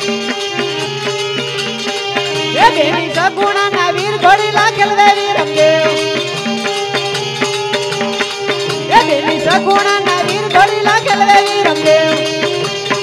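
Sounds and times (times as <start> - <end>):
regular drum beat: 0.0 - 13.0.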